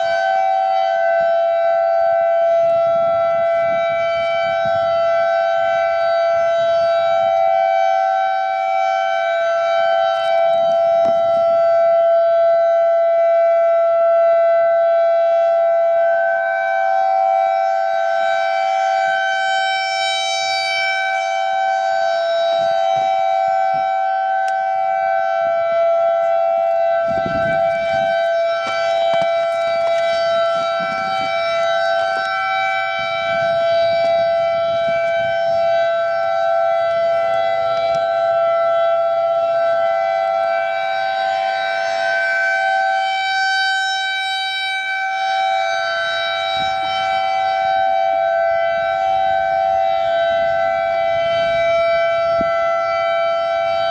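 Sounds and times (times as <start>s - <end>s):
warning sirens steady tone: 0.0s - 53.9s.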